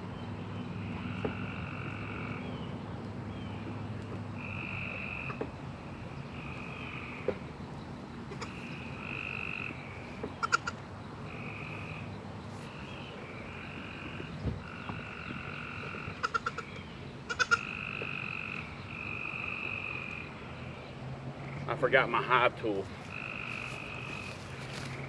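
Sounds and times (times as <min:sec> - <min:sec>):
frogs trilling: 0:00.6 - 0:25.0.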